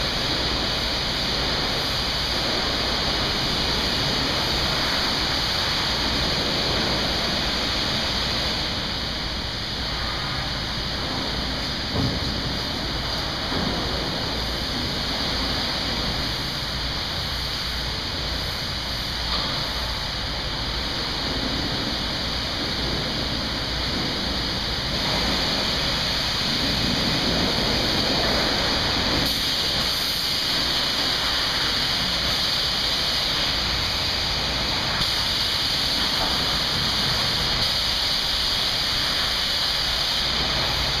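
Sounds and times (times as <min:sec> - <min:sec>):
high-pressure water spray: 0:00.0 - 0:41.0.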